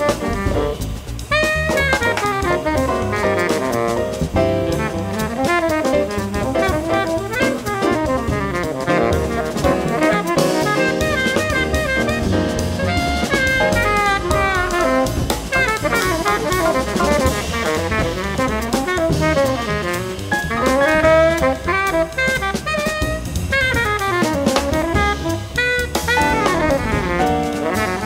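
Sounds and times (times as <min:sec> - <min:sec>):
double bass: 0:00.0 - 0:28.0
drum kit: 0:00.0 - 0:28.0
piano: 0:00.0 - 0:28.0
saxophone fast runs: 0:00.0 - 0:28.0.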